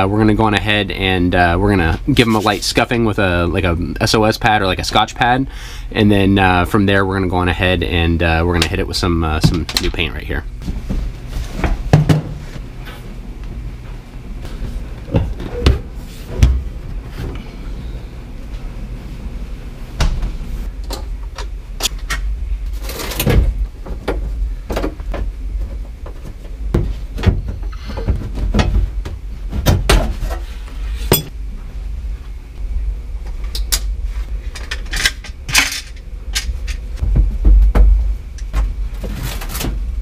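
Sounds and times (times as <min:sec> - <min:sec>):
constant low hum: 0:00.0 - 0:40.0.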